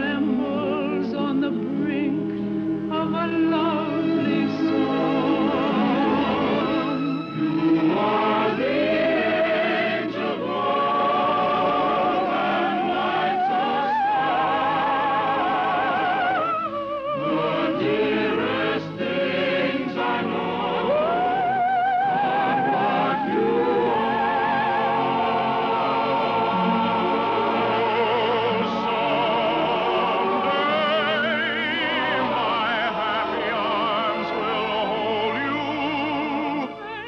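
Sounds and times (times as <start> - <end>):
choir singing: 0.0 - 2.3, 2.9 - 37.0
orchestral accompaniment: 0.0 - 37.0.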